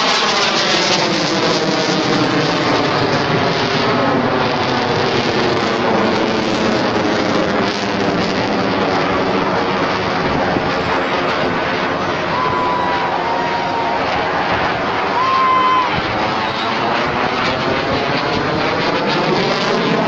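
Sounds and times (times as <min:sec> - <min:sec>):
loud jet engine: 0:00.0 - 0:20.0.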